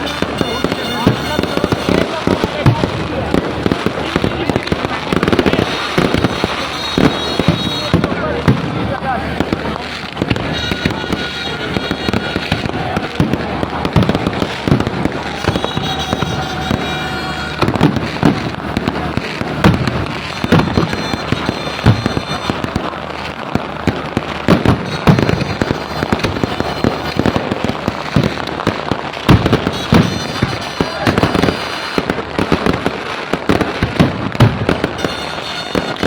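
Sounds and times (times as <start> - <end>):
fireworks bangs: 0.0 - 36.0
fireworks crackle: 0.0 - 36.0.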